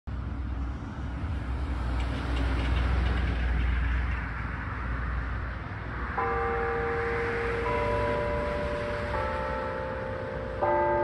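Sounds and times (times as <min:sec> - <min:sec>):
vehicle passing: 0:00.5 - 0:11.0.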